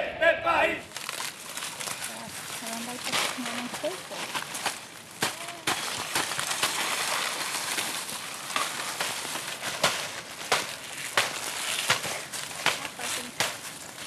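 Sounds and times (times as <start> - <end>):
dry corn husks rustling: 0.8 - 14.0.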